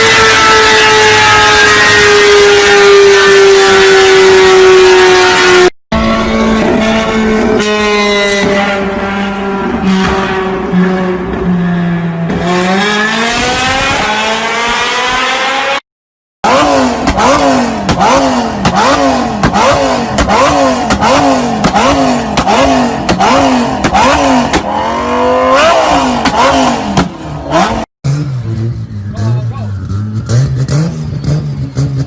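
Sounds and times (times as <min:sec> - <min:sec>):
car engine idling and revving: 0:00.0 - 0:15.8, 0:16.4 - 0:32.0.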